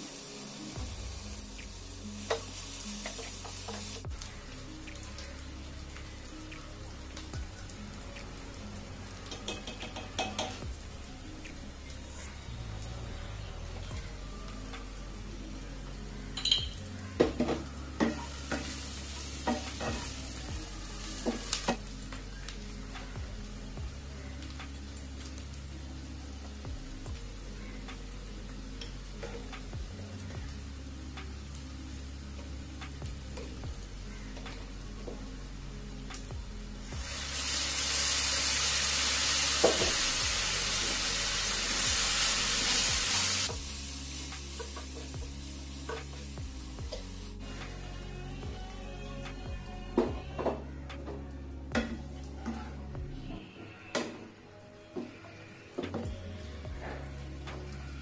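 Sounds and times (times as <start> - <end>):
onions sizzling: 0.0 - 49.5.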